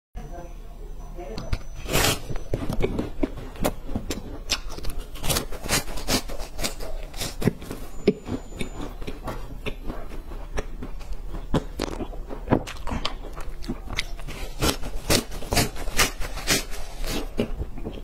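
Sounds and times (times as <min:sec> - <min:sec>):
crunching and chewing: 0:01.5 - 0:18.0.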